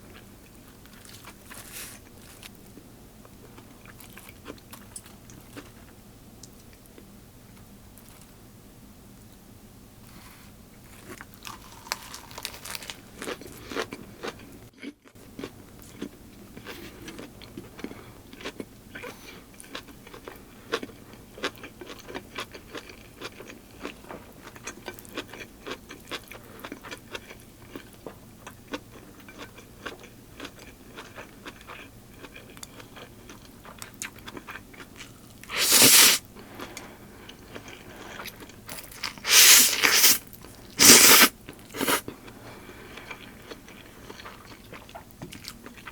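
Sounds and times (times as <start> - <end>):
chewing and crunching food: 0.0 - 8.4, 10.1 - 45.9.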